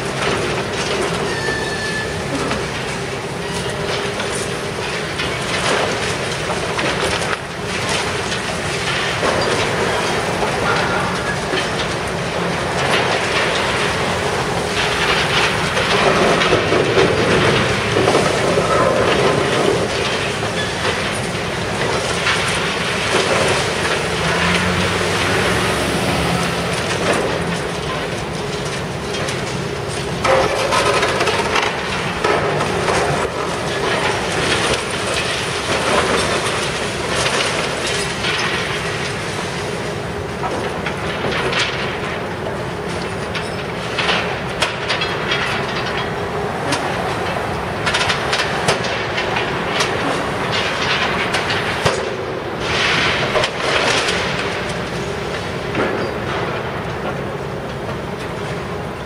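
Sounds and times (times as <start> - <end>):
concrete breaking and rubble falling: 0.0 - 39.5, 43.0 - 57.2
excavator running: 0.0 - 59.0.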